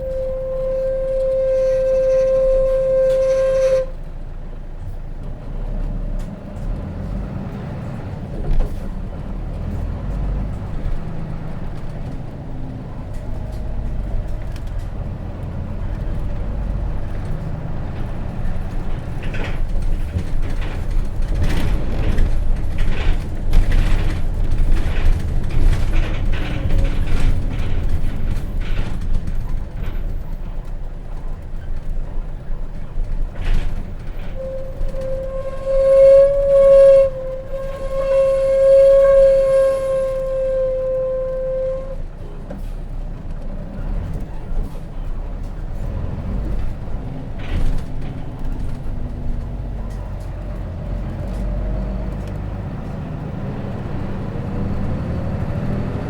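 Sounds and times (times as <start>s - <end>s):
bus body rattling and creaking: 0.0s - 56.0s
bus diesel engine rumbling: 0.0s - 56.0s.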